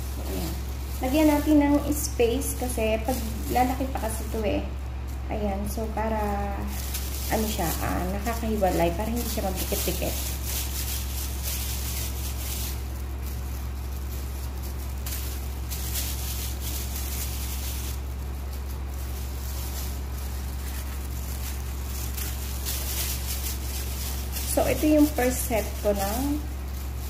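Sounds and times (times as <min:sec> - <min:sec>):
plastic gloves rustling: 0:00.0 - 0:27.0
steady low hum: 0:00.0 - 0:27.0.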